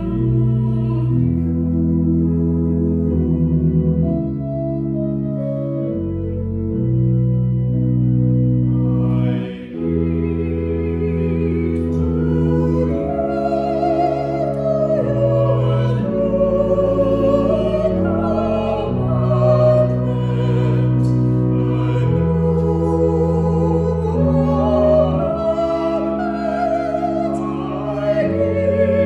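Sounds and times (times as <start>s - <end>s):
classical voice singing: 0.0s - 6.5s, 8.5s - 29.0s
church organ chords: 0.0s - 29.0s.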